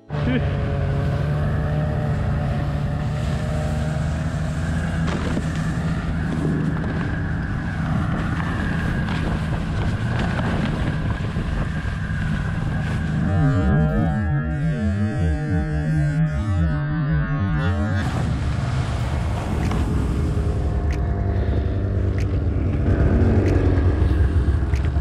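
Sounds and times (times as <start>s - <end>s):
snowmobile engine running: 0.0s - 25.0s.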